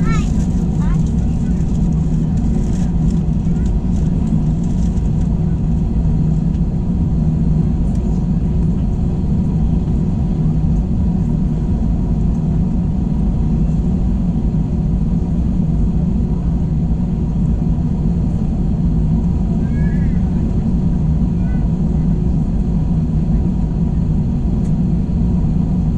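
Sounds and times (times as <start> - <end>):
constant hum: 0.0 - 25.9
jet cabin engine rumble: 0.0 - 25.9.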